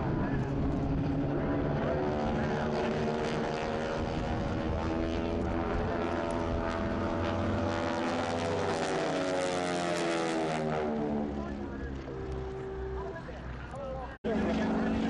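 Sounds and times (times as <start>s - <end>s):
propeller aircraft droning overhead: 0.0s - 15.0s.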